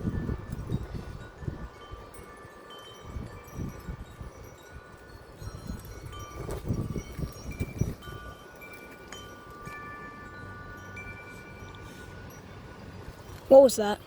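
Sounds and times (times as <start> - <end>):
metal wind chime ringing: 0.0 - 14.0
wind buffeting microphone: 0.0 - 14.0.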